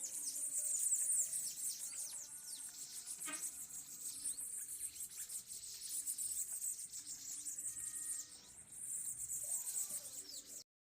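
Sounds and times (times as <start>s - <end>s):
insects trilling: 0.0s - 10.6s
small birds chirping: 0.0s - 10.7s.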